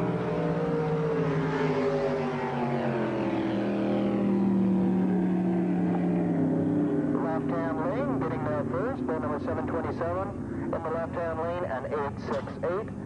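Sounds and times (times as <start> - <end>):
racing boat engines running hard: 0.0 - 13.0.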